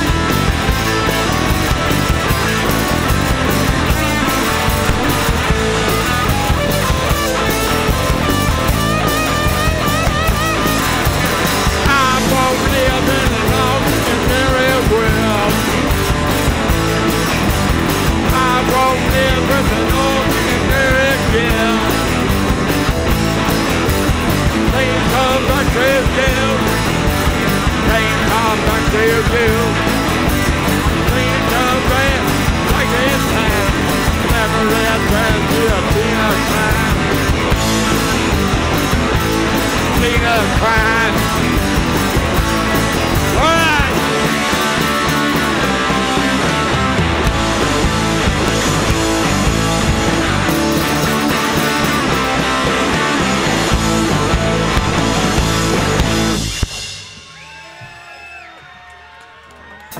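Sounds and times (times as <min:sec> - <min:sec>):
live rock band playing: 0:00.0 - 0:58.9.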